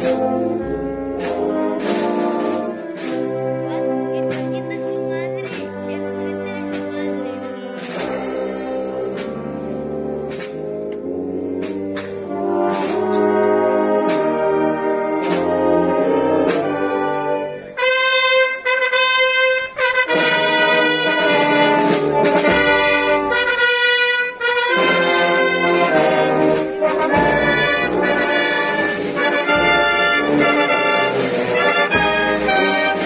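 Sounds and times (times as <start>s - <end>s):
brass band playing a march: 0.0s - 33.0s.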